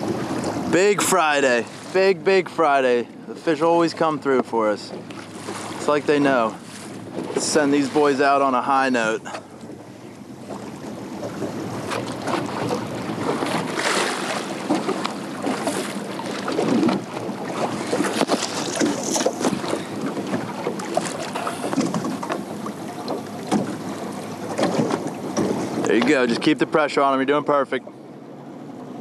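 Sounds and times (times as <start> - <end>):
water splashing against kayak: 0.0 - 29.0.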